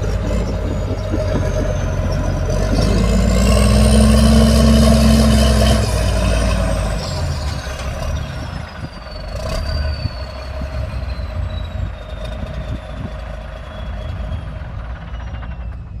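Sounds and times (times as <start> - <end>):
heavy diesel engine: 0.0 - 16.0.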